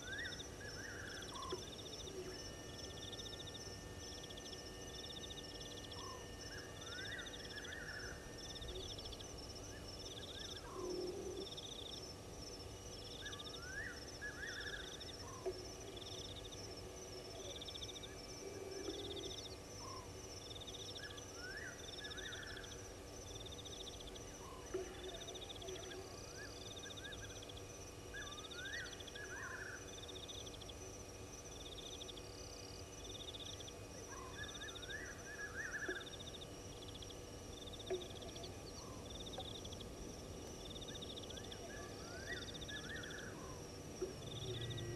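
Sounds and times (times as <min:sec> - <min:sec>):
frogs croaking: 0:00.0 - 0:44.9
high insect trill: 0:00.0 - 0:44.9.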